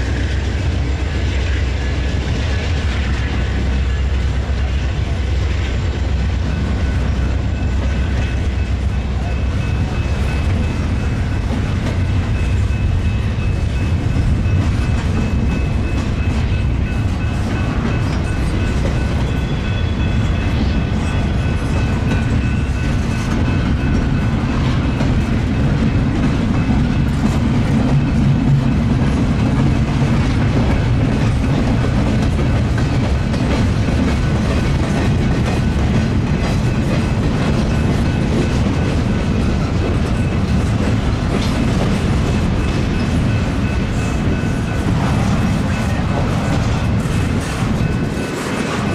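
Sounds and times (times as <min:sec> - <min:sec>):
steel wheels rumbling on rail: 0:00.0 - 0:48.9.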